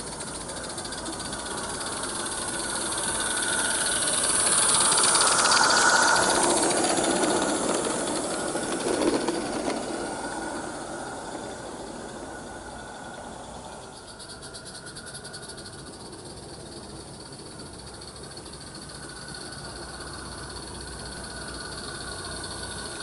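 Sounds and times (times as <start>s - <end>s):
steam hiss: 0.0s - 23.0s
train wheel clatter: 0.0s - 23.0s.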